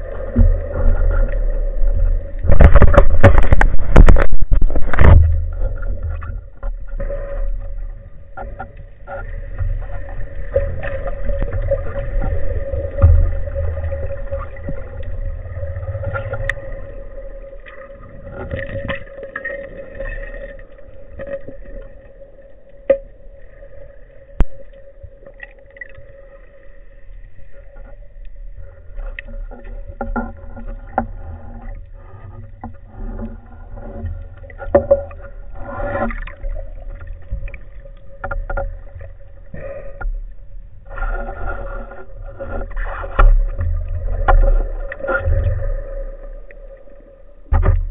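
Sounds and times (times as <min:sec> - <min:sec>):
rumble of surging water: 0:00.0 - 0:47.9
steady underwater hum: 0:00.0 - 0:47.9.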